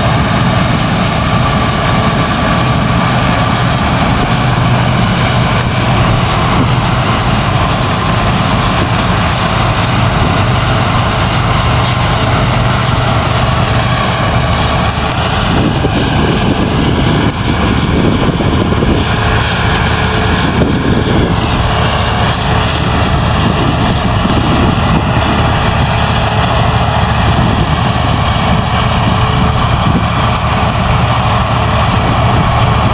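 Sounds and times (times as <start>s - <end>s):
combine harvester engine drone: 0.0s - 32.9s
high whine: 0.0s - 32.9s.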